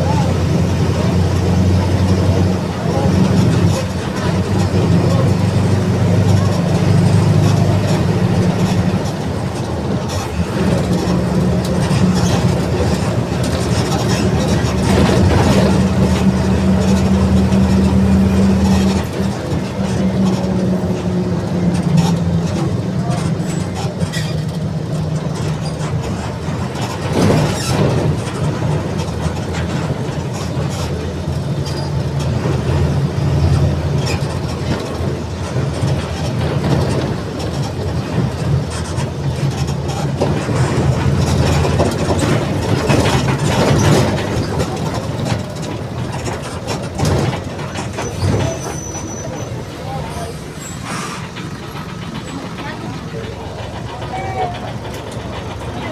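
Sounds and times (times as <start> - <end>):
bus body knocks and rattles: 0.0 - 55.9
bus diesel engine drone: 0.0 - 55.9.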